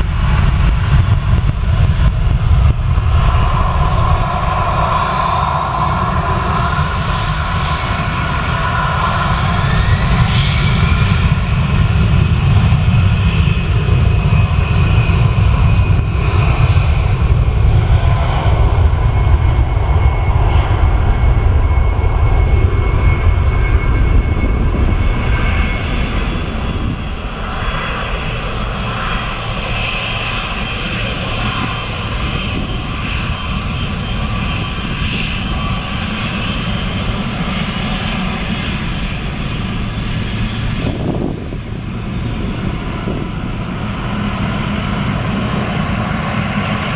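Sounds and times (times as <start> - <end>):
jet engines rumbling and whining: 0.0 - 46.9.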